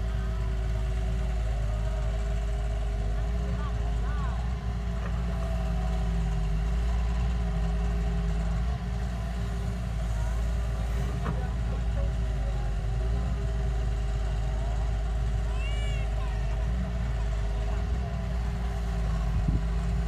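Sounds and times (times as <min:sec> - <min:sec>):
heavy machine engine rumble: 0:00.0 - 0:20.0.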